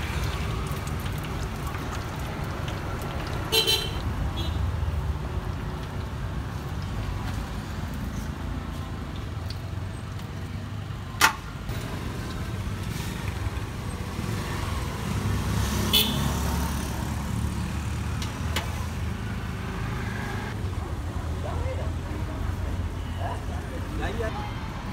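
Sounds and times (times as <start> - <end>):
street traffic: 0.0 - 24.9.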